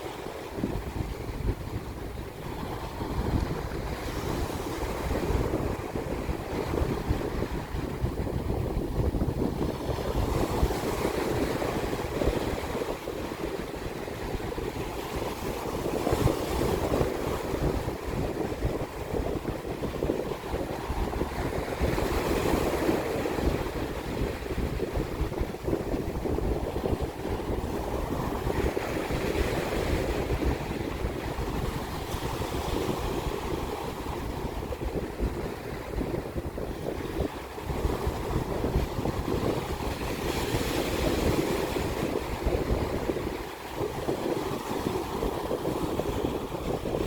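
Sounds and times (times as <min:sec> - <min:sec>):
sea waves washing ashore: 0:00.0 - 0:47.0
wind buffeting microphone: 0:00.0 - 0:47.0.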